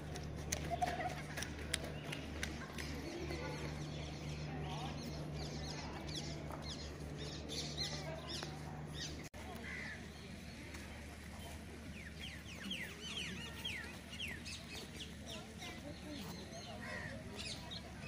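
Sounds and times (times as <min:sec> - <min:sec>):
birds chirping: 0:01.8 - 0:18.0.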